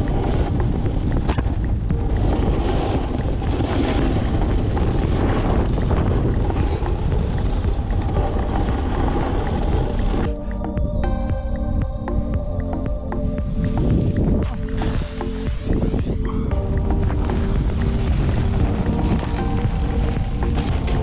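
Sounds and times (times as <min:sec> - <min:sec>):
snowboard scraping packed snow: 0:00.0 - 0:10.4, 0:14.4 - 0:21.0
wind buffeting microphone: 0:00.0 - 0:21.0.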